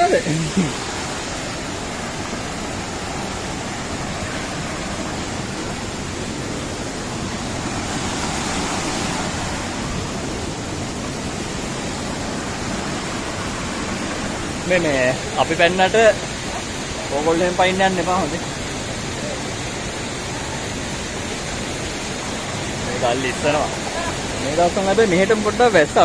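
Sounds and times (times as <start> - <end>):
water rushing between boulders: 0.0 - 26.0.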